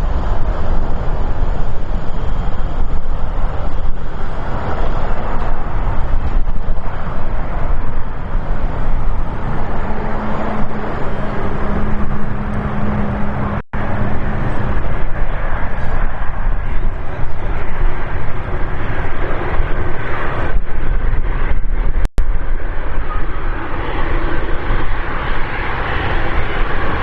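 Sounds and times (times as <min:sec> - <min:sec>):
jet engine noise: 0:00.0 - 0:27.0.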